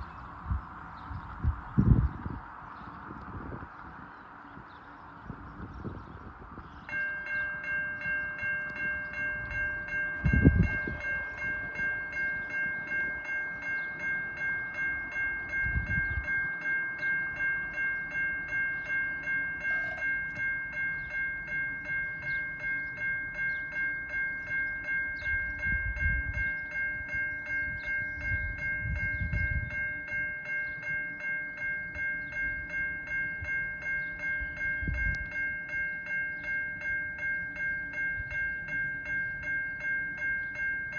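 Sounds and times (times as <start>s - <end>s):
railroad crossing bell ringing: 0.0s - 40.9s.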